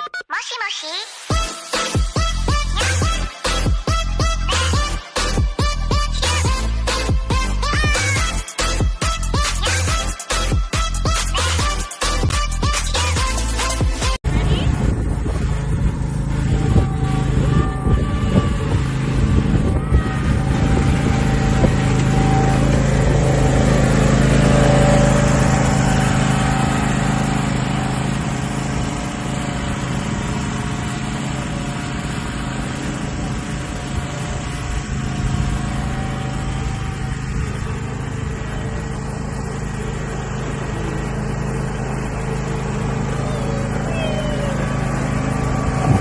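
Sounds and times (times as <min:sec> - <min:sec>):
riding lawn mower engine running: 0:01.7 - 0:46.0.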